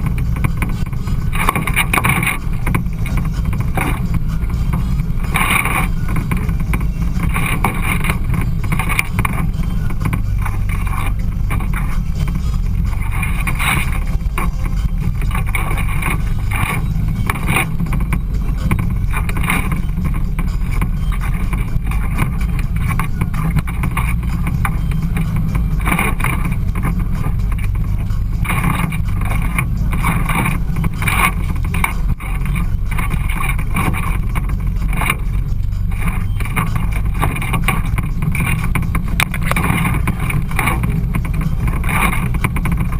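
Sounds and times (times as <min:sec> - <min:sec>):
rattle: 0:00.0 - 0:42.9
vehicle engine rumble: 0:00.0 - 0:42.9
wind noise: 0:00.0 - 0:42.9.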